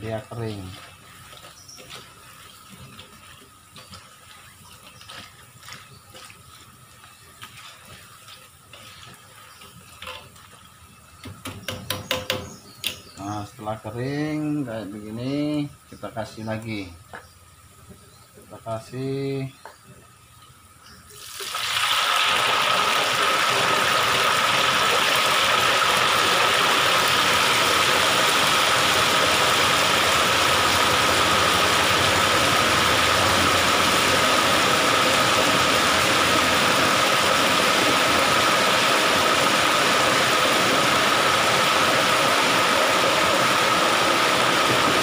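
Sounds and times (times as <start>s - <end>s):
batter sizzling in hot oil: 0.0s - 45.0s.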